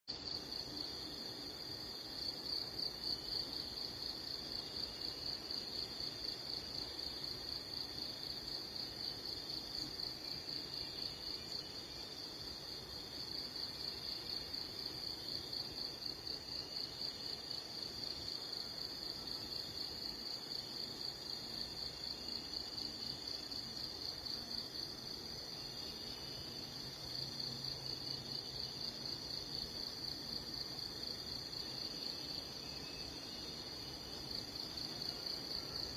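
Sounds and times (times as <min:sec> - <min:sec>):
insects trilling: 0:00.2 - 0:35.9.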